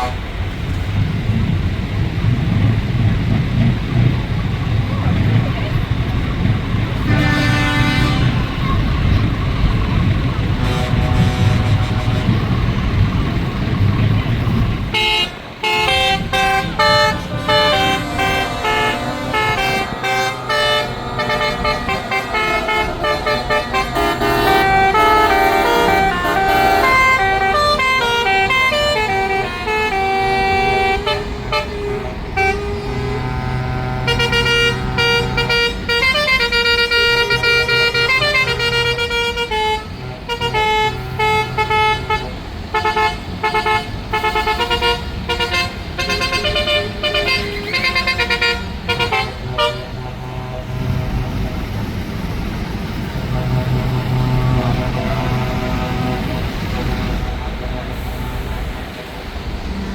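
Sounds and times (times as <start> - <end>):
truck air horns playing notes: 0.0 - 0.3, 6.8 - 13.6, 14.9 - 59.9
diesel engine rumble: 0.0 - 59.9.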